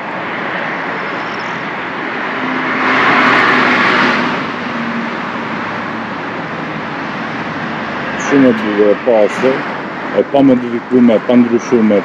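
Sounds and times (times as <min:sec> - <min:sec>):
traffic noise: 0:00.0 - 0:12.0
vehicle passing whoosh: 0:00.5 - 0:10.2.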